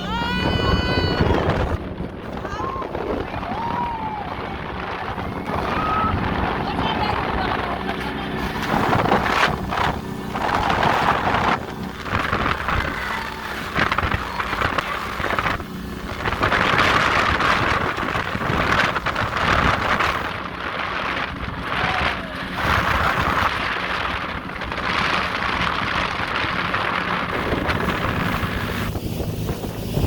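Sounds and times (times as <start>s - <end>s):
motorboat engine running: 0.0s - 30.0s
wind buffeting microphone: 0.0s - 30.0s.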